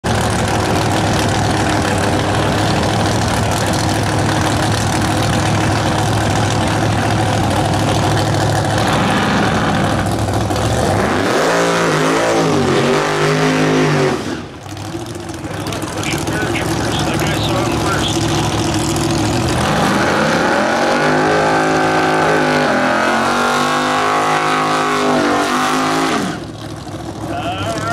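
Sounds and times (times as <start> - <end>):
car engines idling and revving: 0.0 - 27.9.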